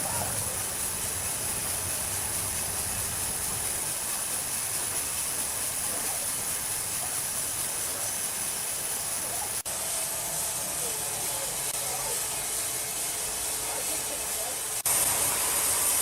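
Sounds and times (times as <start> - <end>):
sawmill machinery hissing: 0.0 - 16.0.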